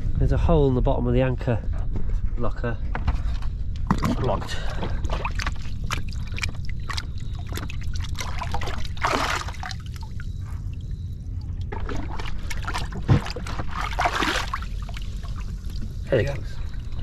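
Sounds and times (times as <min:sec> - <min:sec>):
muddy water sloshing and splashing: 0:03.1 - 0:17.0.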